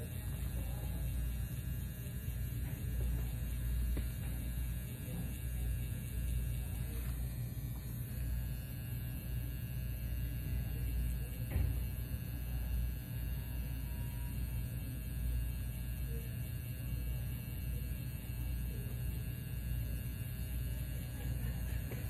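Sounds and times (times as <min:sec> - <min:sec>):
tattoo pen machine humming: 0:00.0 - 0:22.0.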